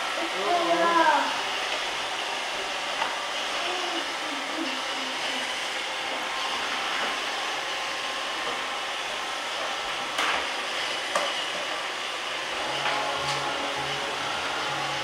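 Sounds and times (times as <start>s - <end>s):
robot vacuum whirring: 0.2s - 15.0s.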